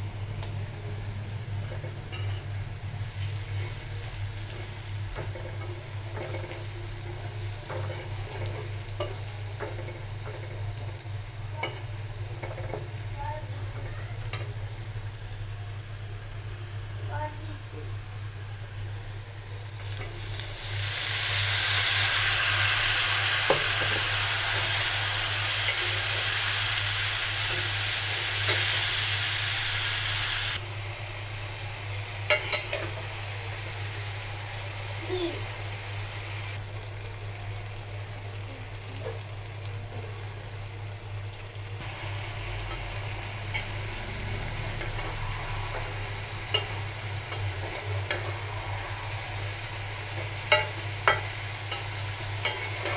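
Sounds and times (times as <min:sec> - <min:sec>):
potatoes frying in oil: 0:00.0 - 0:52.9.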